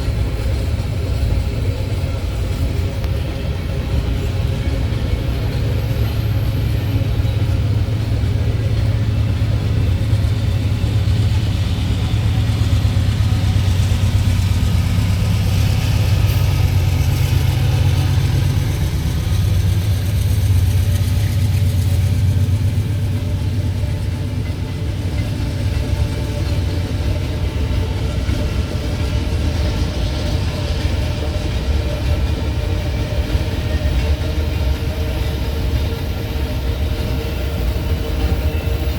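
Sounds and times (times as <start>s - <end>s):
freight train passing: 0.0s - 38.9s.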